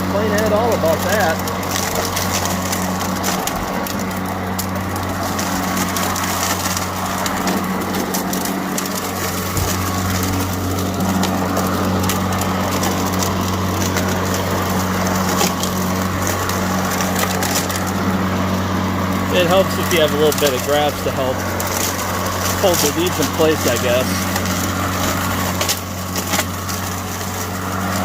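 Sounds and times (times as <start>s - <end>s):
dry leaves crackling under blade: 0.0s - 28.0s
lawn mower motor humming: 0.0s - 28.0s.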